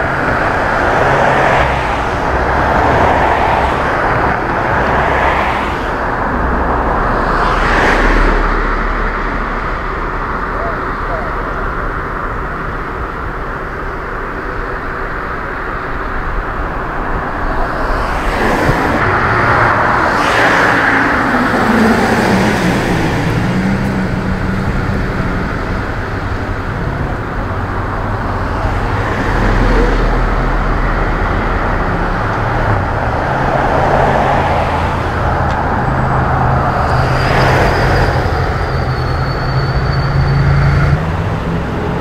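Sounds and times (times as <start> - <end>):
cars passing: 0.0 - 42.0
low engine drone: 0.0 - 42.0.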